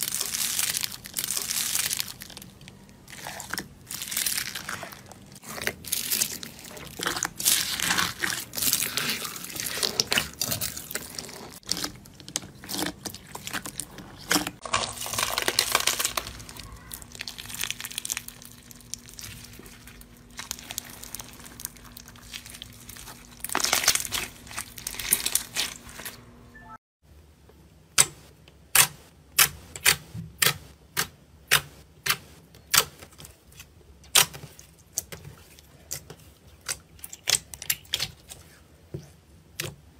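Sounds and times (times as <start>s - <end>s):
slime crackling and squelching: 0.0s - 26.2s, 31.5s - 39.7s.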